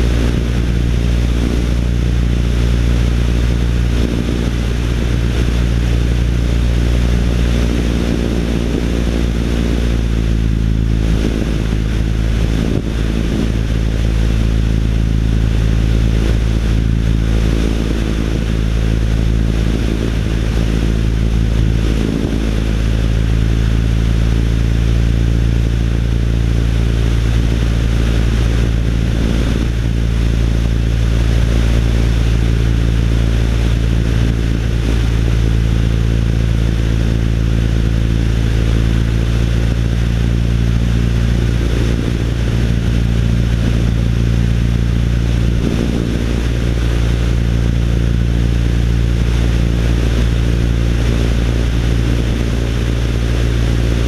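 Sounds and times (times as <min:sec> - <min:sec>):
light aircraft engine and propeller: 0:00.0 - 0:54.0
rushing wind: 0:00.0 - 0:54.0.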